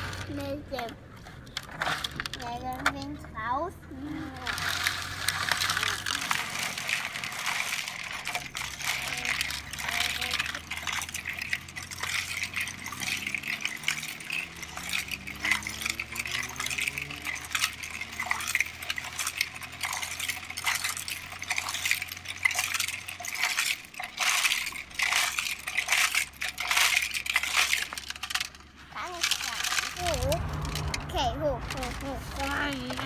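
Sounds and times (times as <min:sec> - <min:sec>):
plastic and pebbles clinking: 0:00.0 - 0:33.0.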